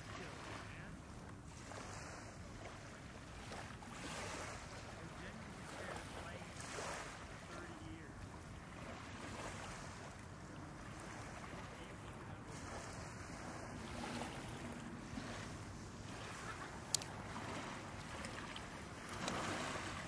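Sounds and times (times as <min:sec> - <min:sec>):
hiss of breeze and water: 0:00.0 - 0:20.0.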